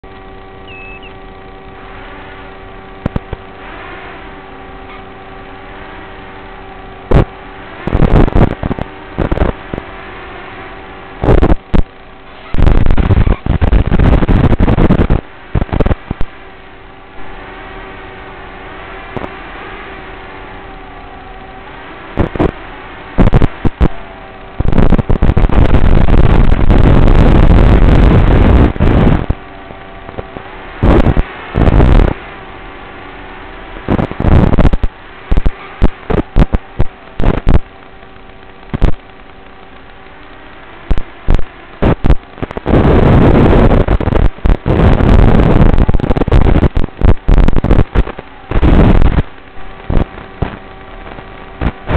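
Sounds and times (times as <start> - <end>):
harsh static bursts: 0.0 - 51.9
steady hiss with buzzing hum: 0.0 - 51.9.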